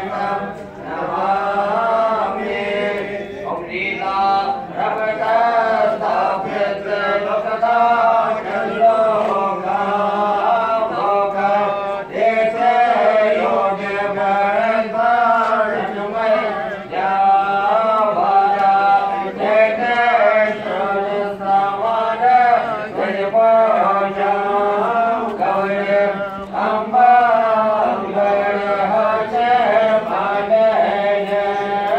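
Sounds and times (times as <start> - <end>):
melodic chanting: 0.0 - 31.9.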